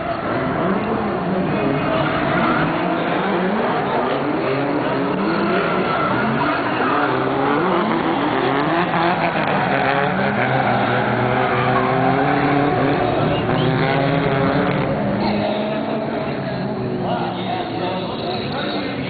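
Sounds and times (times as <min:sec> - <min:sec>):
car engines revving: 0:00.0 - 0:19.0
tyre squeal: 0:01.6 - 0:19.0.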